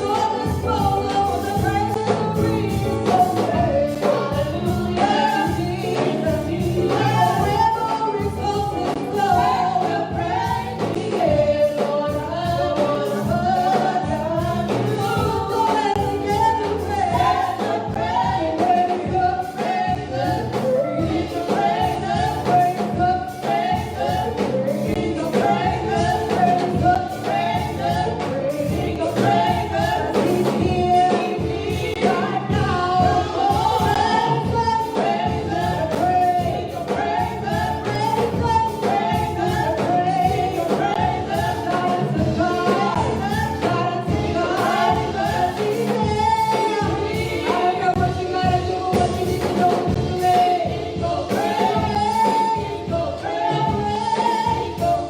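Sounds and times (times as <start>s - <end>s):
band accompaniment with beat: 0.0s - 55.0s
gospel choir singing: 0.0s - 55.0s.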